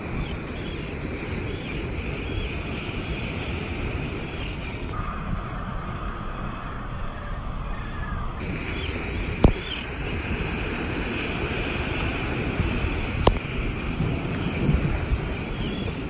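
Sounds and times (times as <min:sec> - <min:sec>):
seabirds calling: 0:00.0 - 0:05.0, 0:07.6 - 0:16.0
breaking surf: 0:00.0 - 0:07.0, 0:08.4 - 0:16.0
faint steady whine: 0:00.0 - 0:16.0
wind rumbling on microphone: 0:00.0 - 0:16.0.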